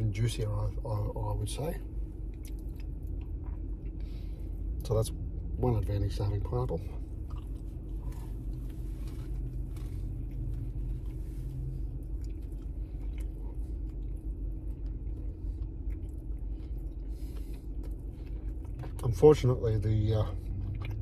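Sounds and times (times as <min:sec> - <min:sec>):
low rumble inside a car: 0:00.0 - 0:21.0
man chewing a burger: 0:01.8 - 0:19.3, 0:20.2 - 0:21.0.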